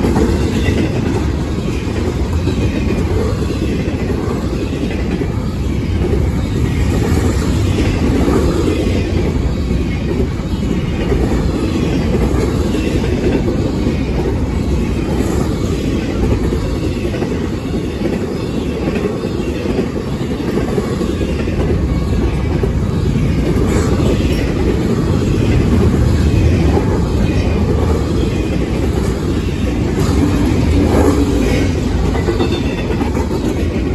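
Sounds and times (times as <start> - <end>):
train wheels rumbling on rail: 0.0 - 33.9.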